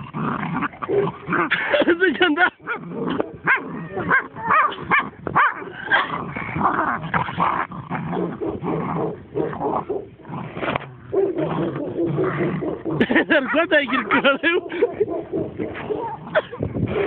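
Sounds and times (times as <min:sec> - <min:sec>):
puppy growling and yipping: 0:00.0 - 0:01.7, 0:02.6 - 0:17.0.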